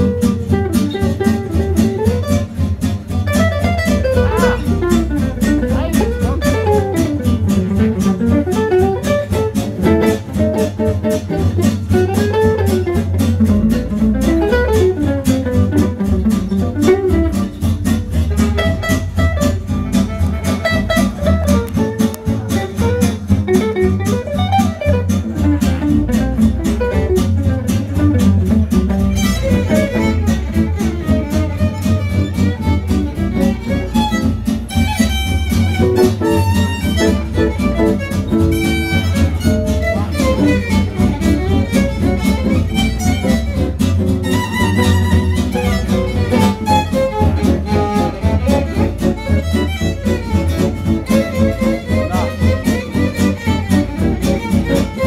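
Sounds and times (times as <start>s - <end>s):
strummed rhythm guitar: 0.0s - 55.0s
violin melody: 3.2s - 55.0s.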